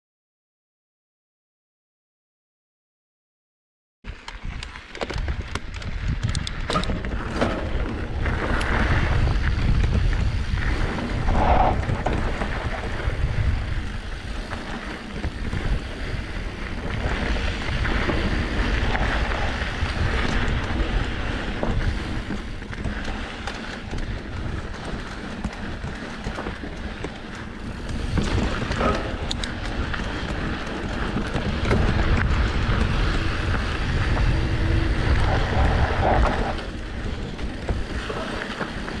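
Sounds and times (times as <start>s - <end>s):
bike rattling: 4.1s - 39.0s
bike tyres crunching on gravel: 4.1s - 39.0s
wind rumble on microphone: 4.1s - 39.0s.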